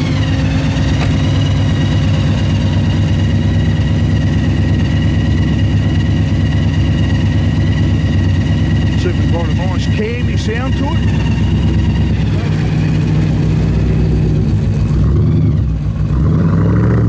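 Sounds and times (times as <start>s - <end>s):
car engine idling: 0.0s - 16.8s
supercharger whine: 0.0s - 17.0s.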